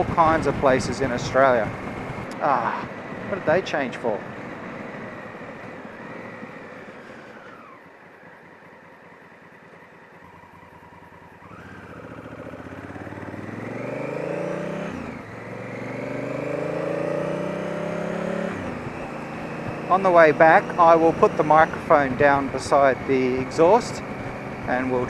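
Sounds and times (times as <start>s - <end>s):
motorcycle engine accelerating: 0.0s - 25.0s
road and wind noise: 0.0s - 25.0s.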